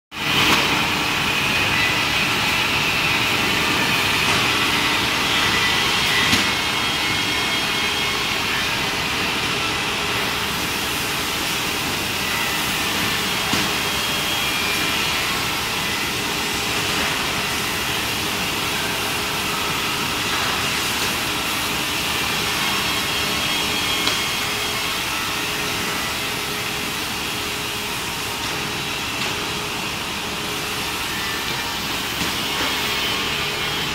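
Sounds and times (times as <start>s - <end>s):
factory machinery noise: 0.1s - 33.9s.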